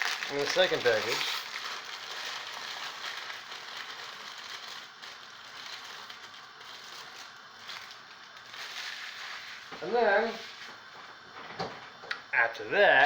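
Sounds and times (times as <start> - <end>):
pot of water boiling: 0.0 - 12.0.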